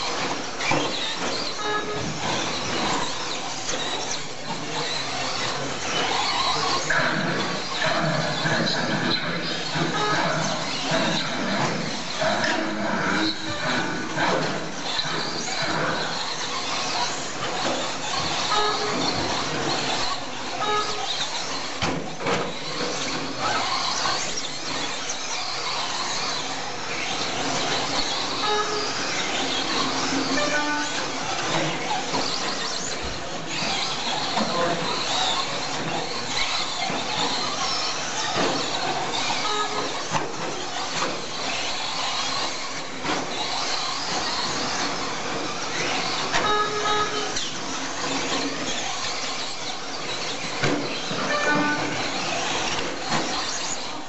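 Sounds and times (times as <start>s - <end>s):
toy truck motors whining: 0.0s - 54.0s.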